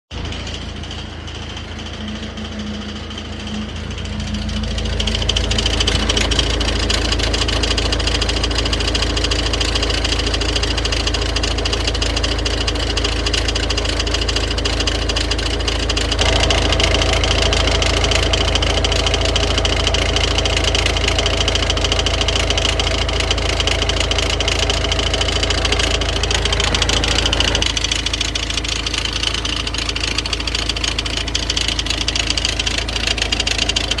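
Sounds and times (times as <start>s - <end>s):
car engine idling: 0.1s - 34.0s.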